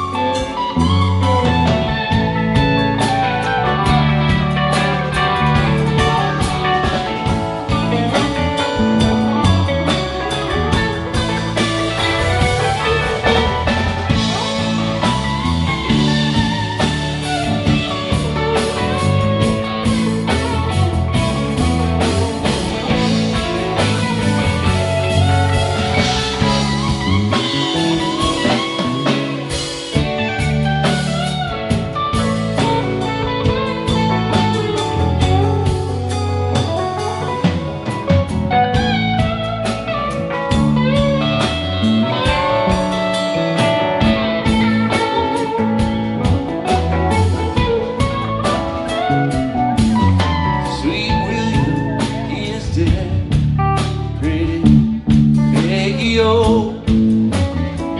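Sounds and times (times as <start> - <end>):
bass: 0.0 - 57.9
drum kit: 0.0 - 57.9
electric guitar: 0.0 - 57.9
keyboard: 0.0 - 57.9.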